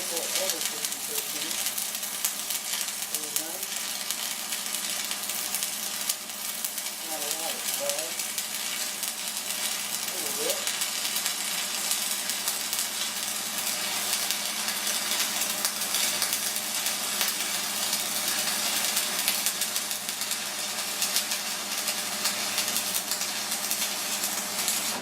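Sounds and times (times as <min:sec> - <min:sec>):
welding arc crackling sizzle: 0:00.0 - 0:25.0.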